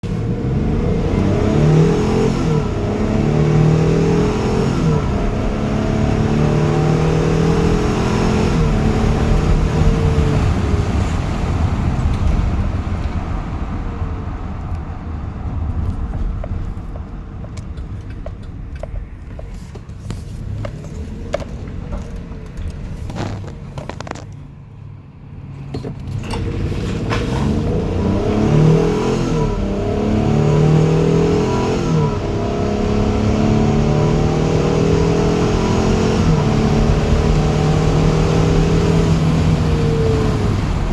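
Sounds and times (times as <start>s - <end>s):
road noise: 0.0s - 40.9s
van engine accelerating: 0.0s - 40.9s.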